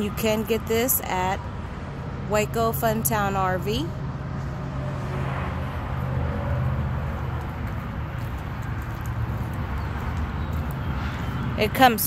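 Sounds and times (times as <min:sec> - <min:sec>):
highway traffic rumble and hiss: 0:00.0 - 0:12.0.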